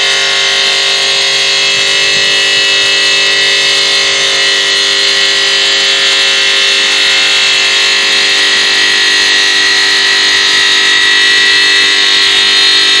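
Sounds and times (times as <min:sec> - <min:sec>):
stone saw blade whining: 0:00.0 - 0:13.0.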